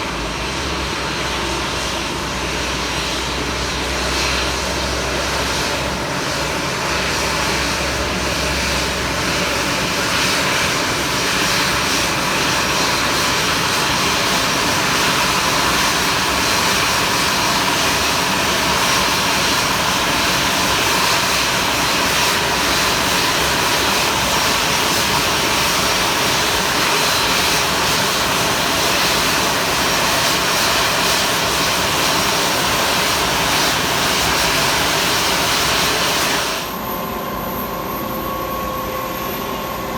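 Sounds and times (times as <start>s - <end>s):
airplane engine rush: 0.0s - 39.9s.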